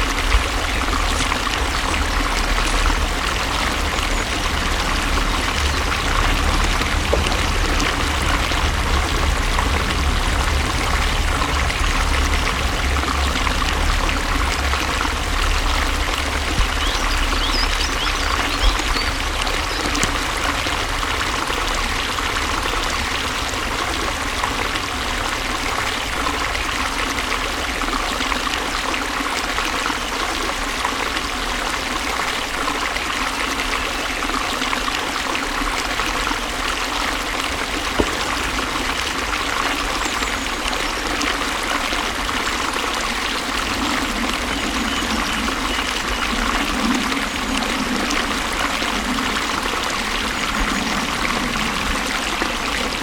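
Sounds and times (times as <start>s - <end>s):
water flowing and splashing: 0.0s - 53.0s.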